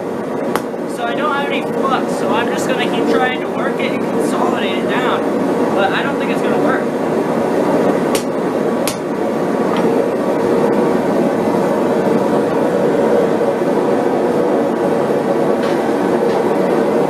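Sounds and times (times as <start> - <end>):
forge burner roaring: 0.0 - 17.0.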